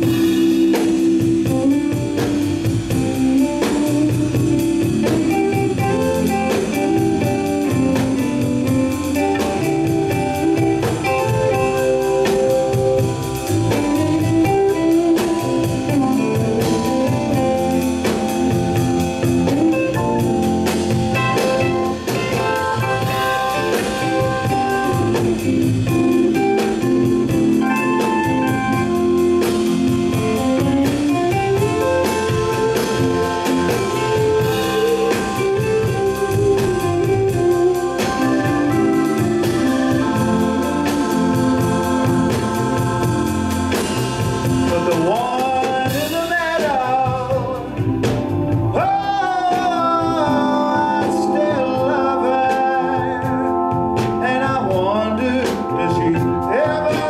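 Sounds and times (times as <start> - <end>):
live band playing: 0.0 - 57.0
organ chords: 0.0 - 57.0
person singing: 0.0 - 57.0.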